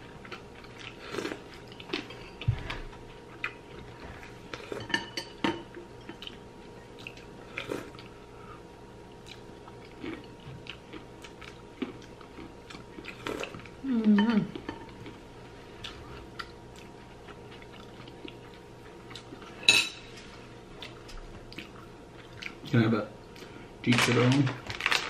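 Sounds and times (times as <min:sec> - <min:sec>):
person chewing: 0:00.0 - 0:04.9, 0:06.0 - 0:08.2, 0:09.1 - 0:22.7.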